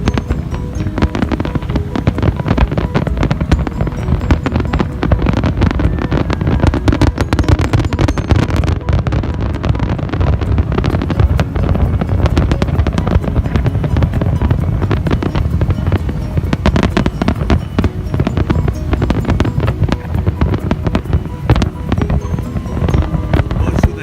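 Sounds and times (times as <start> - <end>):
continuous low rumble: 0.0 - 24.0
fireworks bangs and crackles: 0.0 - 24.0.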